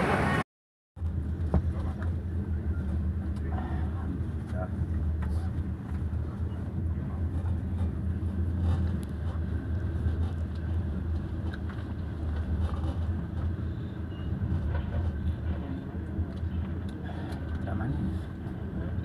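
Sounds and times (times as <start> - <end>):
train rumbling inside carriage: 0.0 - 0.4, 1.0 - 19.0.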